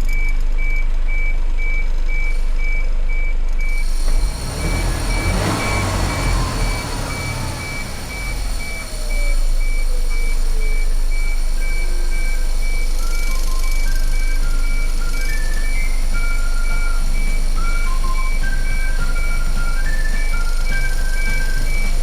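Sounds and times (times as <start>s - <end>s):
heavy truck engine running: 0.0s - 22.0s
high electronic beeps: 0.0s - 22.0s.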